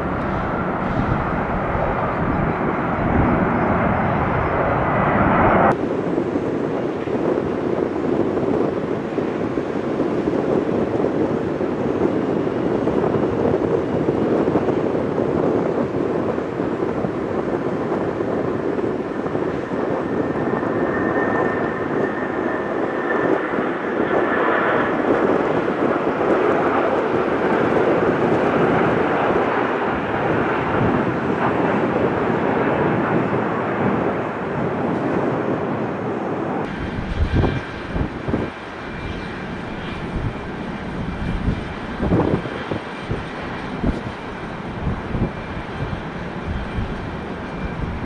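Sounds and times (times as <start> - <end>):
jet engines running: 0.0 - 48.0.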